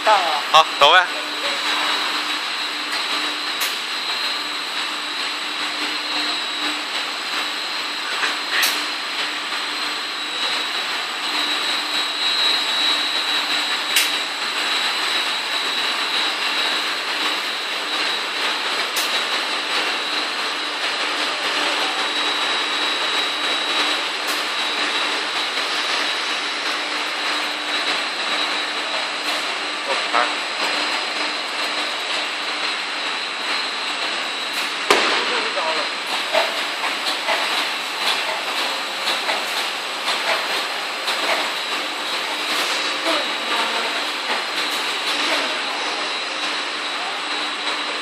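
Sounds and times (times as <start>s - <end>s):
high steady whine: 0.0s - 48.0s
machine whir and hiss: 0.0s - 48.0s.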